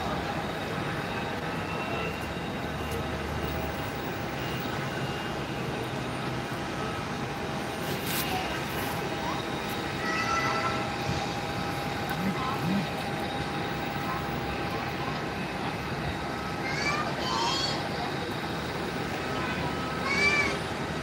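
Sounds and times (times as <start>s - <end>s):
constant rush and hum: 0.0s - 21.0s.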